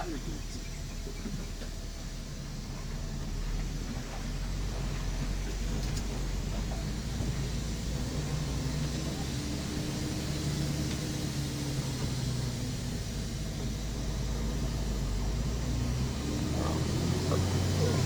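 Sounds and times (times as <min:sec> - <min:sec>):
bus diesel engine humming: 0:00.0 - 0:18.0
road and cabin noise: 0:00.0 - 0:18.0.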